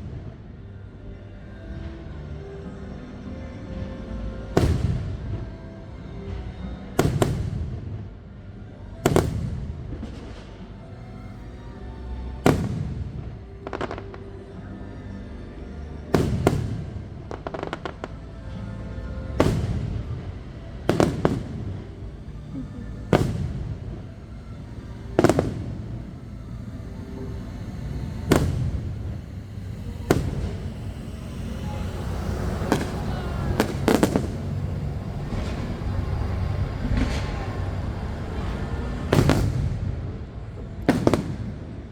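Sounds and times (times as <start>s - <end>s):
music playing: 0.0s - 41.9s
fireworks crackle: 4.5s - 5.5s, 6.3s - 8.1s, 9.0s - 15.4s, 16.1s - 41.9s
fireworks booming: 4.5s - 5.6s, 7.0s - 8.1s, 9.0s - 14.5s, 16.1s - 41.9s.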